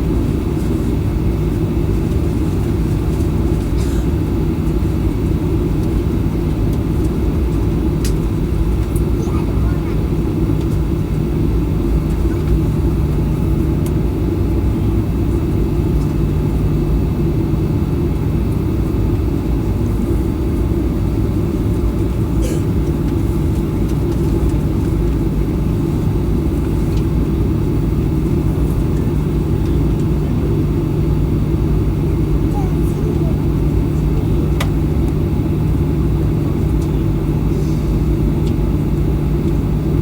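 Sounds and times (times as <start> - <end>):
jet engines in cabin: 0.0 - 40.0.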